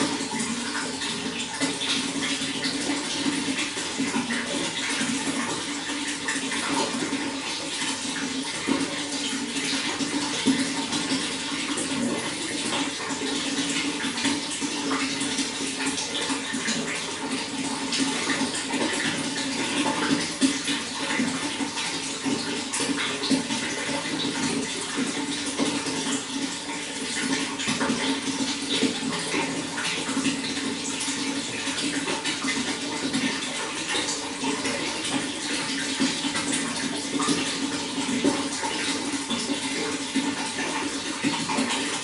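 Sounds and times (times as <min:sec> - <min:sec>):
running water with small splashes: 0:00.0 - 0:42.0.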